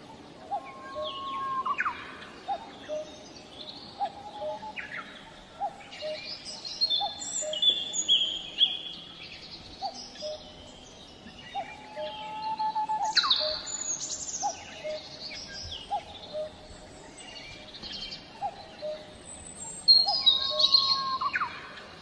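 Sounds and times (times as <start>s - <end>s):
birds whistling and chirping: 0.0s - 22.0s.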